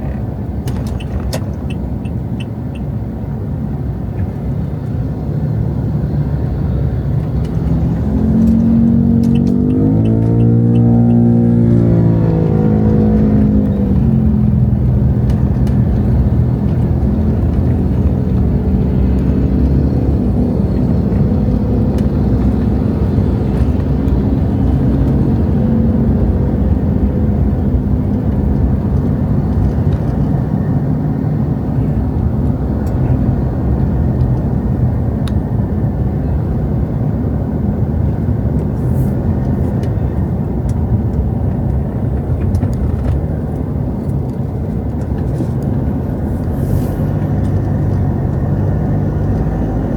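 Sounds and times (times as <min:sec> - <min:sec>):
road noise: 0:00.0 - 0:49.9
vehicle engine running: 0:05.7 - 0:49.9.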